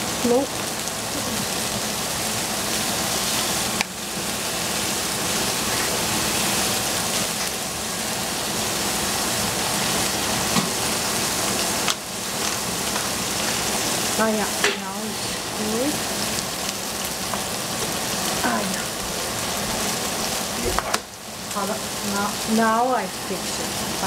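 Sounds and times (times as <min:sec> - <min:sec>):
vegetables sizzling in a saucepan: 0:00.0 - 0:24.0.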